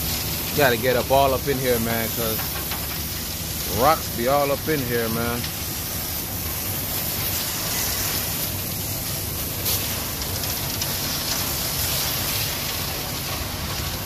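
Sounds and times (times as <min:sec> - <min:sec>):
hose spraying water: 0:00.0 - 0:14.0
truck engine running: 0:00.0 - 0:14.0.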